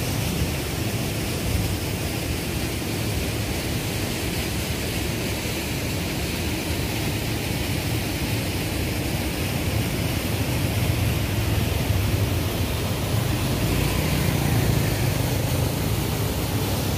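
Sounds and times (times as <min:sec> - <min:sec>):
river rushing over a weir: 0:00.0 - 0:16.9.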